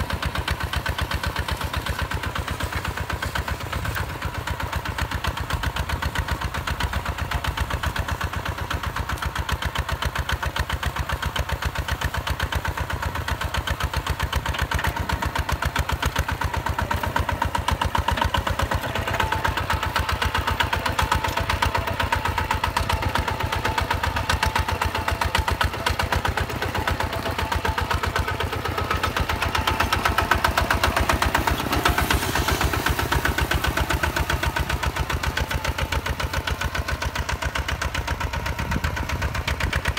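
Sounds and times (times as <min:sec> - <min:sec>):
tractor diesel engine chugging: 0:00.0 - 0:39.9.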